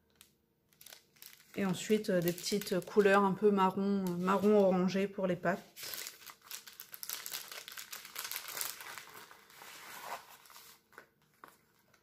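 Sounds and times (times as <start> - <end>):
plastic crinkling: 0.1 - 4.9, 5.7 - 12.0.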